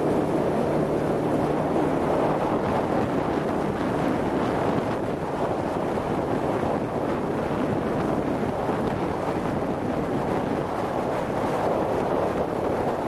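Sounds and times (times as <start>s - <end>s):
wind rush on microphone: 0.0s - 13.0s.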